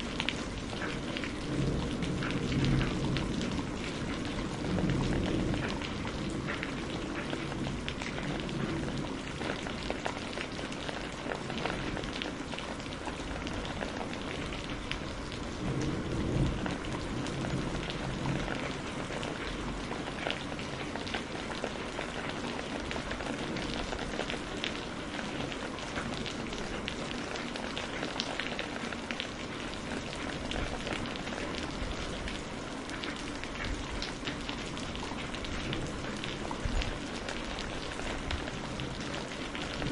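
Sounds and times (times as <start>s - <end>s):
low rumble of thunder: 0.0s - 39.9s
steady rain: 0.0s - 39.9s.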